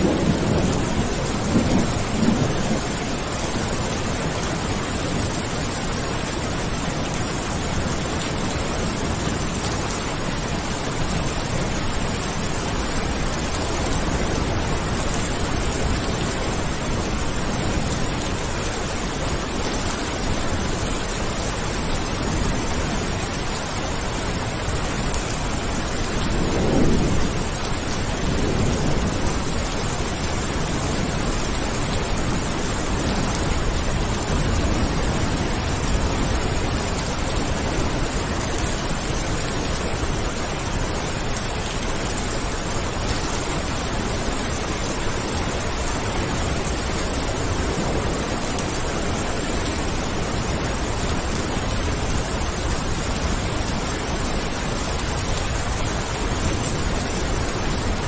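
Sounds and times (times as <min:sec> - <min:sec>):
dense rain: 0:00.0 - 0:58.0
thunder rumbling: 0:00.0 - 0:58.0.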